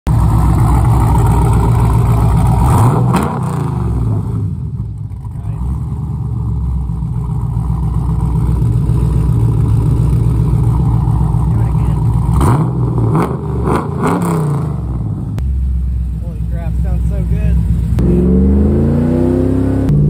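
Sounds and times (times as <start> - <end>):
loud v-eight engine exhaust: 0.1 - 20.0.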